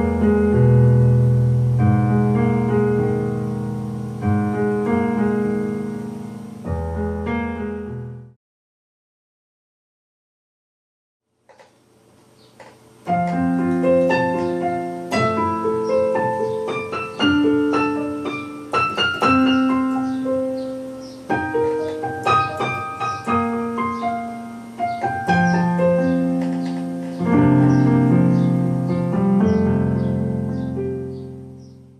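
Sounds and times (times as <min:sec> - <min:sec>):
electronic keyboard piano chords: 0:00.0 - 0:08.4, 0:12.6 - 0:31.9.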